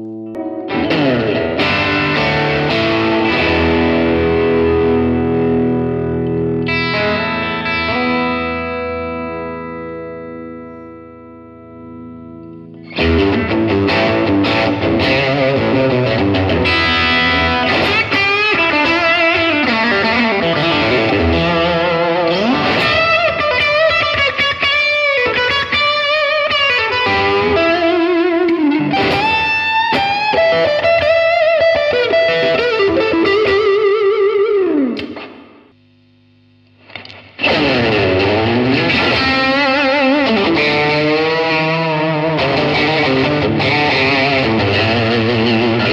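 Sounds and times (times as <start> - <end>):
distorted electric guitar: 0.0 - 45.9
low amp hum: 0.0 - 45.9.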